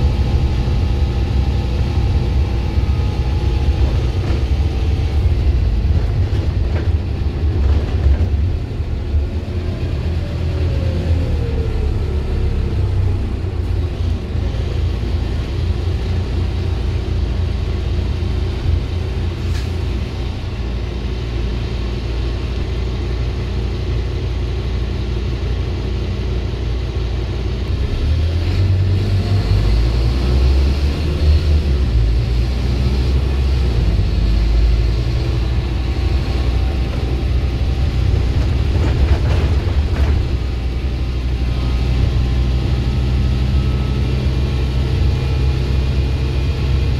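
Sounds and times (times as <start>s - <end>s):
bus engine rumble: 0.0s - 46.9s.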